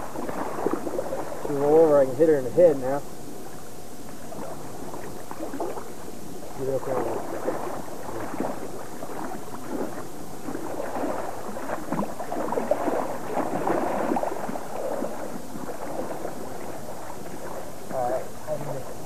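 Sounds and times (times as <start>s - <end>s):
fish splashing in shallow water: 0.0s - 19.0s.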